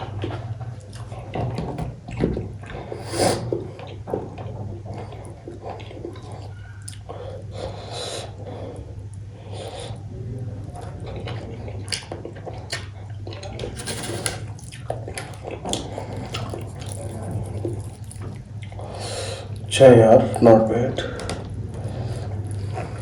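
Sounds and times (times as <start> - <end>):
wet chewing and lip-smacking: 0.0 - 10.0, 10.6 - 19.7
steady low hum: 0.0 - 23.0.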